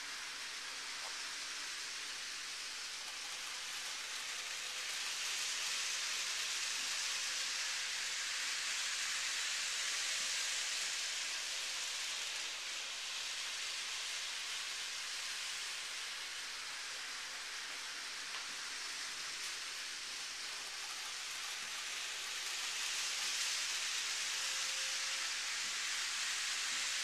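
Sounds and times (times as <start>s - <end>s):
model train wheels hissing: 0.0s - 27.0s.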